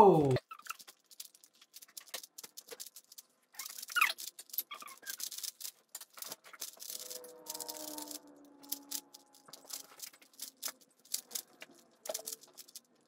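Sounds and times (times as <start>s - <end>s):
puzzle cube plastic clicks: 0.3s - 13.0s.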